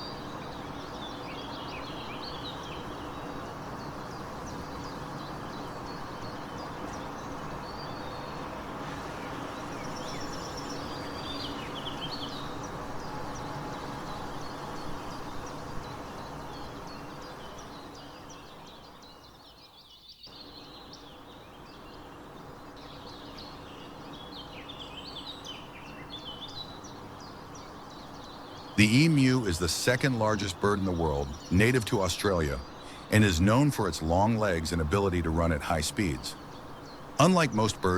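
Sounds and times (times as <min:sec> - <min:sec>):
small birds chirping: 0:00.0 - 0:37.9
steady background hiss: 0:00.0 - 0:37.9.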